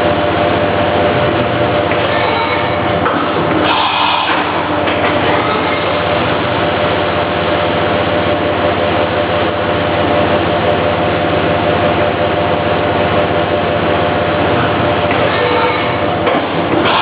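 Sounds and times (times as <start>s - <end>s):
machining noise: 1.1s - 17.0s.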